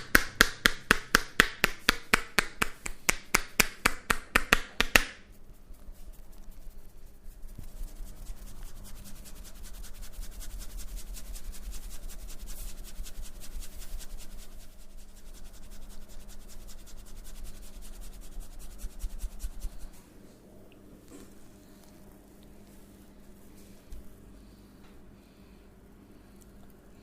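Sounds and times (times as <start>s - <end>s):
hands scratching and rubbing head: 0.4s - 20.0s, 21.1s - 24.2s.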